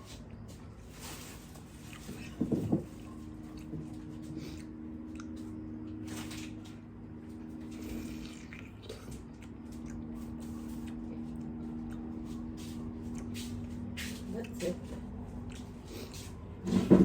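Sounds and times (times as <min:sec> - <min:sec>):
people eating crunching: 0:00.0 - 0:16.8
low electrical hum: 0:00.0 - 0:17.0.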